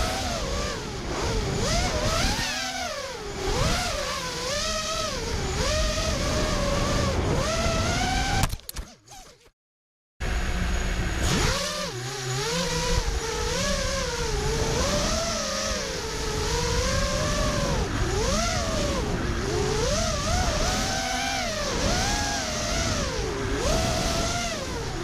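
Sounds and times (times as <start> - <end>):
drone motors whining: 0.0 - 9.5, 10.2 - 25.0.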